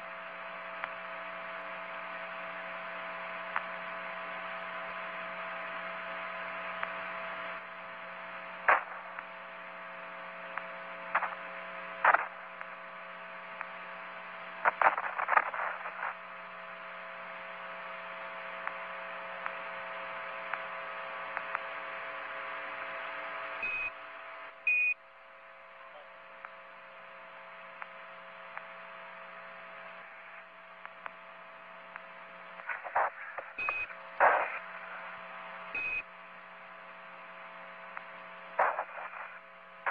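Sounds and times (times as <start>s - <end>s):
electrical hum: 0.0s - 39.9s
radio static hiss: 0.0s - 39.9s
crackles and clicks: 0.1s - 2.6s, 3.4s - 5.9s, 6.7s - 24.9s, 25.7s - 39.9s.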